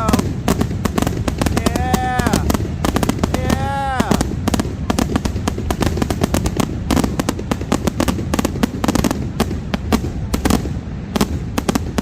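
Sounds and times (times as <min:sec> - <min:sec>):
continuous low rumble: 0:00.0 - 0:12.0
fireworks bangs and crackles: 0:00.0 - 0:12.0.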